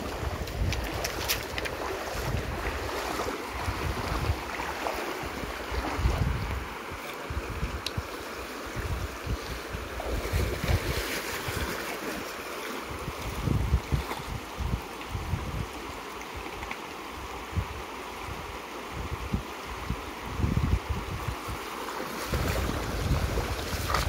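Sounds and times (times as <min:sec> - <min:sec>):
stream water rushing and splashing: 0:00.0 - 0:24.0
wind gusts on microphone: 0:00.0 - 0:24.0.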